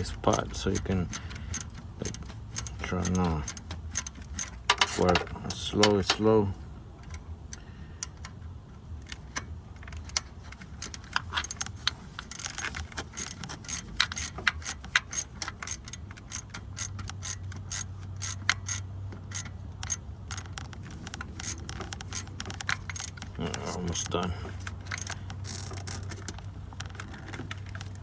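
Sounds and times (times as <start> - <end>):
hand ratchet clicking: 0.0 - 6.2, 9.8 - 28.0.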